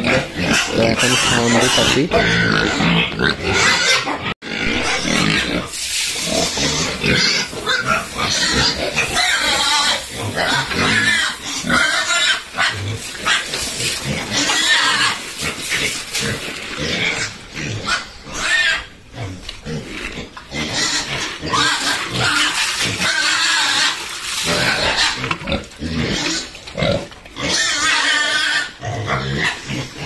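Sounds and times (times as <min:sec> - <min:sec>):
pigs squealing: 0:00.0 - 0:30.0.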